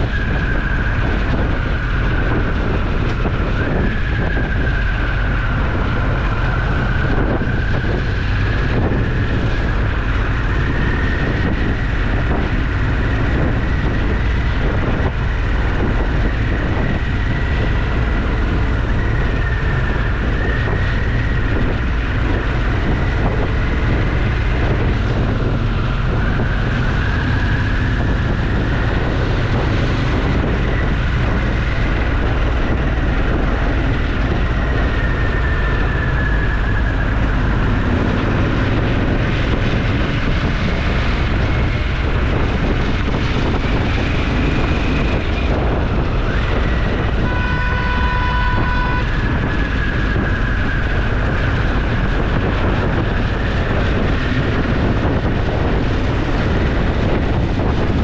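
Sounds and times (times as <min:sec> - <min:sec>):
wind rush over camera: 0:00.0 - 0:58.0.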